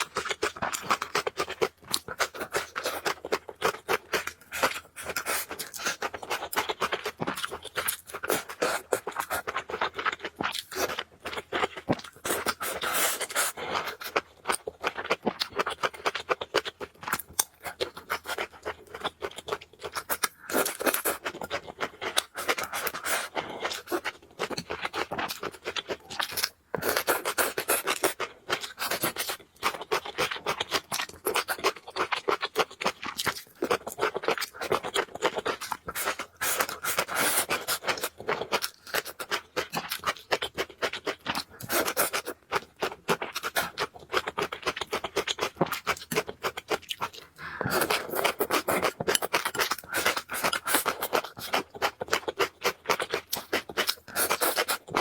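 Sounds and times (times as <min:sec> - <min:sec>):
person chewing and slurping noodles: 0:00.0 - 0:55.0.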